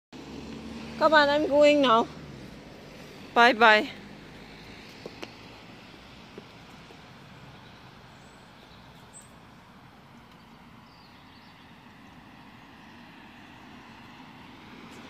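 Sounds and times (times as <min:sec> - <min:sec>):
distant road traffic hum: 0:00.1 - 0:15.0.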